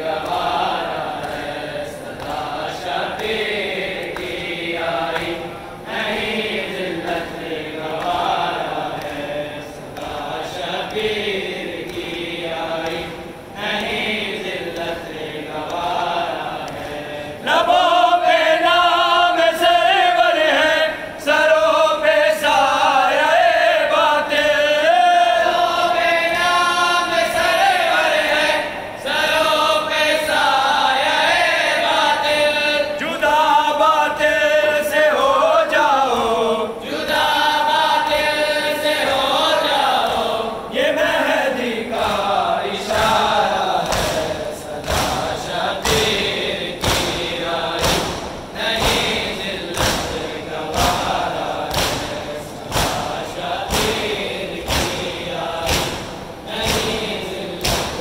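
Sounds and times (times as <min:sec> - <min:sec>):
men chanting a lament: 0:00.0 - 0:58.0.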